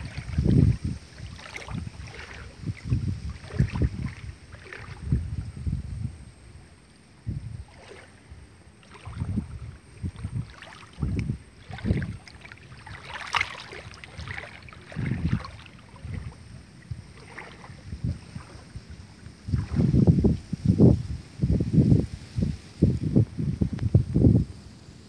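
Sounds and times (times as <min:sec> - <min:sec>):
grass and leaves rustling: 0:00.0 - 0:06.2, 0:07.3 - 0:25.0
wind buffeting microphone: 0:00.0 - 0:24.8.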